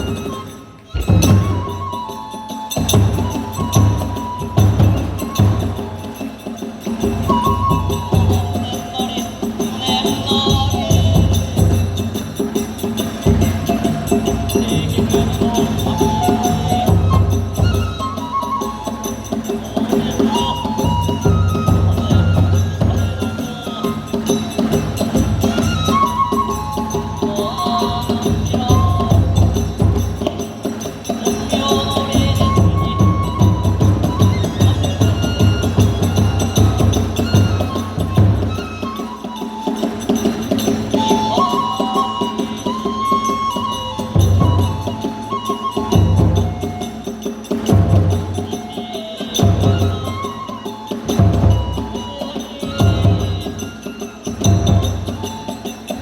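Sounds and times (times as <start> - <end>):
bamboo flute melody: 0.0 - 56.0
small hand cymbals: 0.0 - 56.0
taiko drums beating: 0.0 - 56.0.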